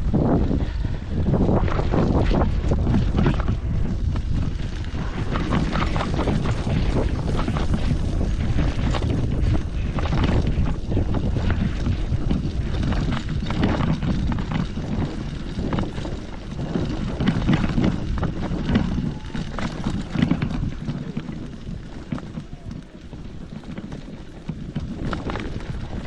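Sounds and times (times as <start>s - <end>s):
wind buffeting microphone: 0.0s - 26.0s
clicks and rustles: 1.6s - 26.0s.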